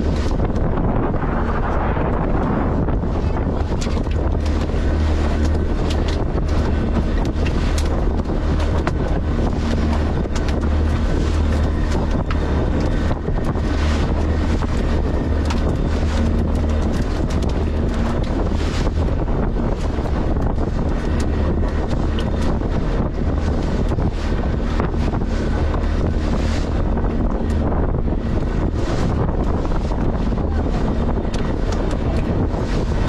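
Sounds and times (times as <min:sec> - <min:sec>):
boat engine humming: 0:00.0 - 0:33.0
wind buffeting microphone: 0:00.0 - 0:33.0.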